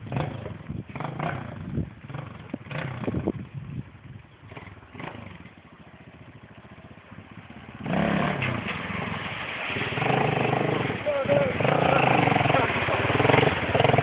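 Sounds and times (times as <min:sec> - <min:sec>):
motorcycle engine revving: 0:00.0 - 0:14.0
water splashing from wheels: 0:00.0 - 0:14.0.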